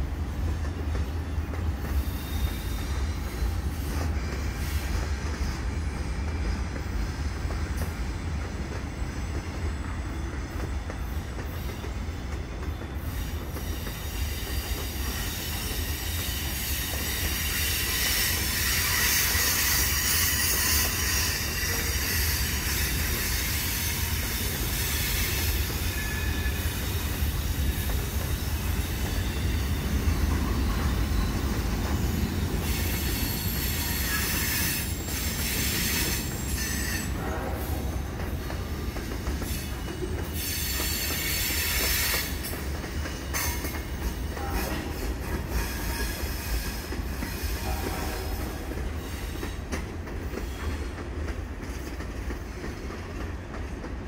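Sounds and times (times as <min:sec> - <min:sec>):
railroad cars rumbling: 0:00.0 - 0:54.0
steel wheels squealing on rail: 0:00.0 - 0:54.0.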